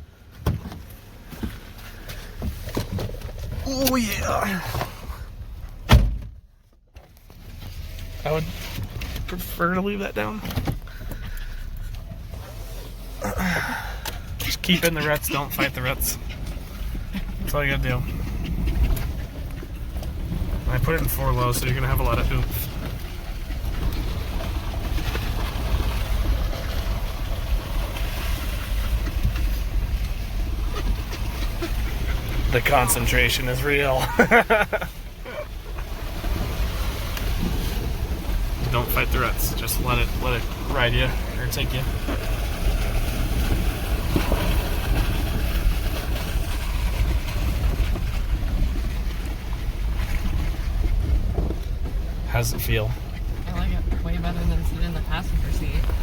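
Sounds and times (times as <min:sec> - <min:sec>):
engine and tyre rumble: 0:00.0 - 0:56.0.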